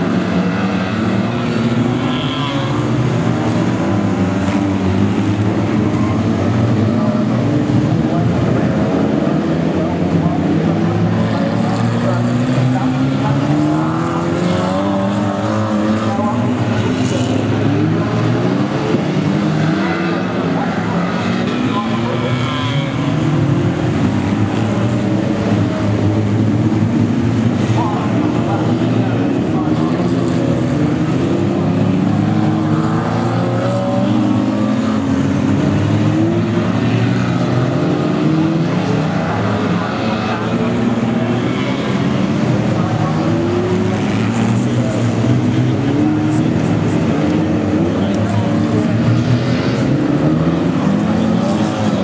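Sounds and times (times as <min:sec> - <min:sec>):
race car engines passing: 0:00.0 - 0:52.0.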